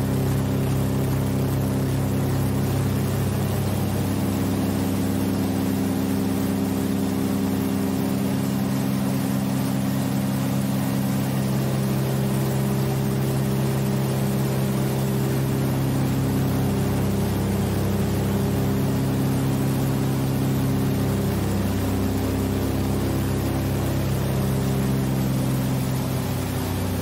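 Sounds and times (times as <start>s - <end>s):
aircraft radial engines droning: 0.0s - 27.0s.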